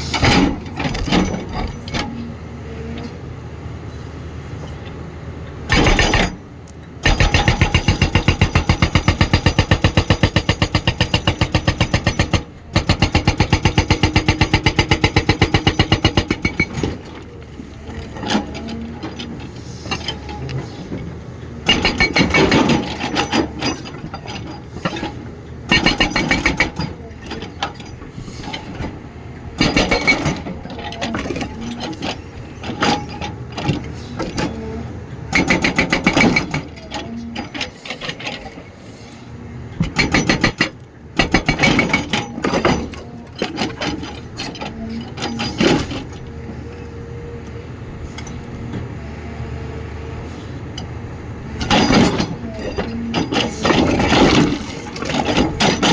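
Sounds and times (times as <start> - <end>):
diesel engine running: 0.0 - 55.9
hydraulic rock breaker hammering: 0.1 - 2.2, 5.7 - 38.8, 39.7 - 46.9, 51.5 - 55.9.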